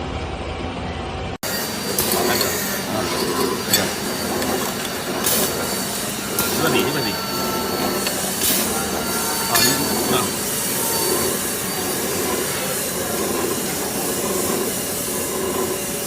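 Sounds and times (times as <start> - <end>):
industrial machinery running: 0.0 - 16.0
high metallic whining: 1.4 - 16.0.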